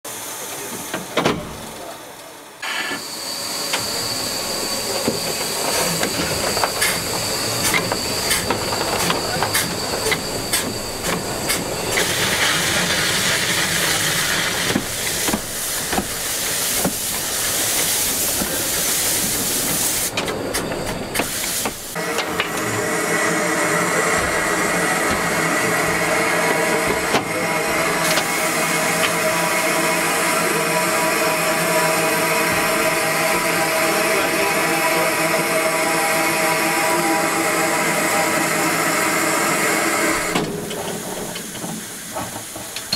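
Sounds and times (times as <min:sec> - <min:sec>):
steam hissing: 0:02.6 - 0:42.9.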